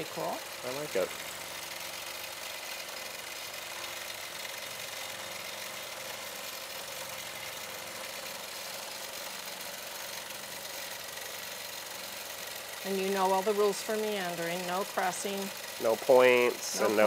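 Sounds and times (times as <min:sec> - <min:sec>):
quilting machine stitching: 0:00.0 - 0:17.0.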